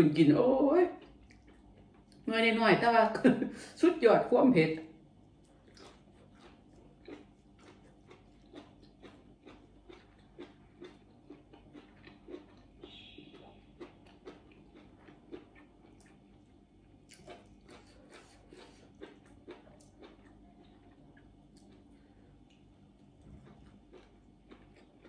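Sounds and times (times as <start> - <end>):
person chewing food: 1.0 - 2.3, 5.2 - 25.0.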